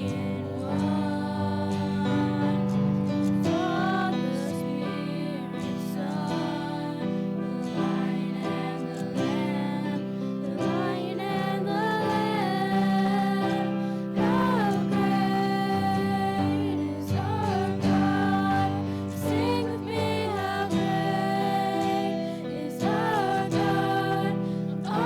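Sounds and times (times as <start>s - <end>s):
person singing slow melody: 0.0s - 25.0s.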